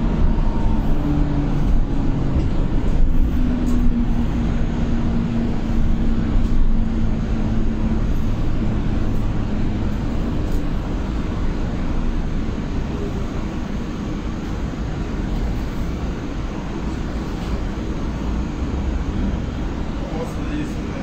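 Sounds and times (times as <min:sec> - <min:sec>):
road and tyre rumble: 0:00.0 - 0:21.0.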